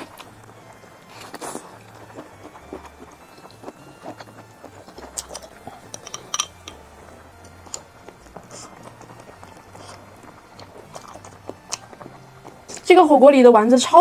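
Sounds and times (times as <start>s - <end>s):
person chewing food: 0.0s - 12.9s.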